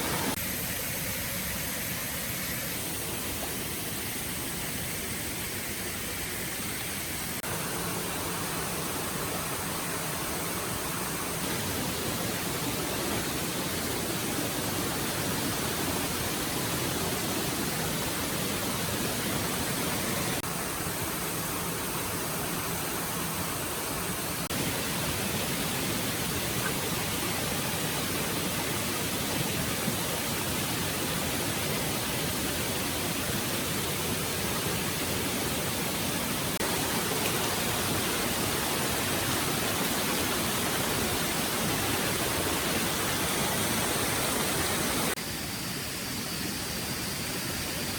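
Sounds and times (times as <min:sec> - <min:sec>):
stream water flowing: 0:00.0 - 0:45.8.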